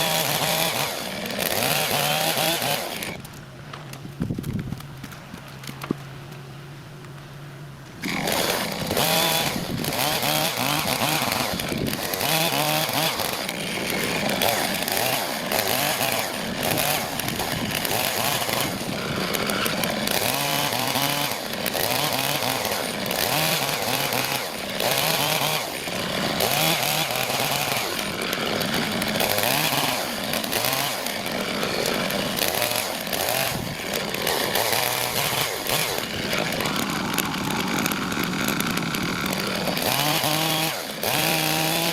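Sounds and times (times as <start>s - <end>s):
chainsaw cutting wood: 0.0s - 6.0s, 8.0s - 41.9s.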